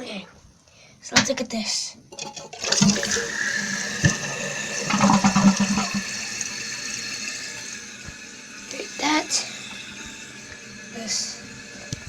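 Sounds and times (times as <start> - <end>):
toilet flushing: 2.1 - 12.0.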